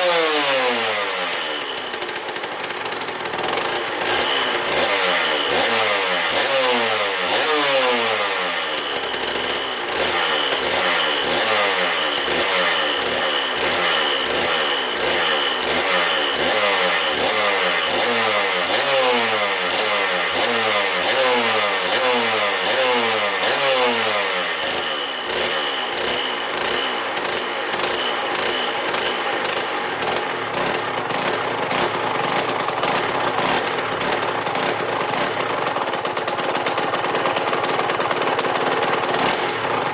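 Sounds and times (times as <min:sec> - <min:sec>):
motorcycle engine idling rough: 0:00.0 - 0:39.9
motorcycle engine revving: 0:00.0 - 0:39.9.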